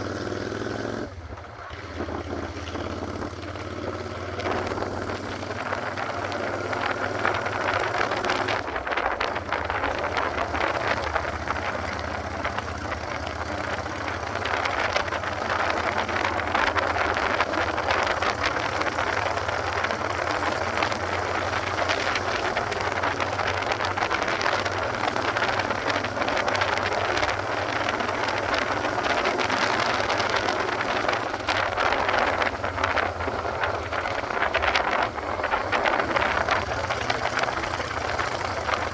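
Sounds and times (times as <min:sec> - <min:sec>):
broad rushing noise: 0:00.0 - 0:38.9
motorcycle engine running: 0:00.0 - 0:38.9.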